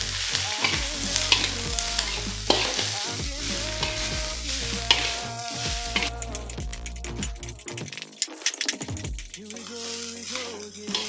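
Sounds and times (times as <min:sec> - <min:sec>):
vegetables sizzling: 0:00.0 - 0:11.0.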